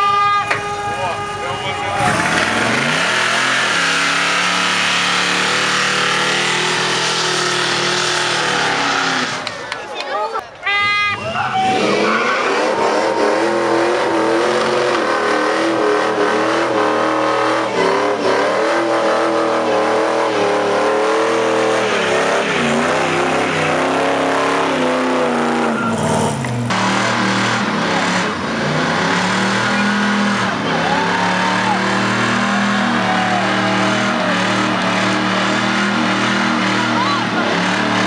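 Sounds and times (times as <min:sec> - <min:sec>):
car engine at high revs: 0:02.0 - 0:09.8, 0:11.7 - 0:38.0.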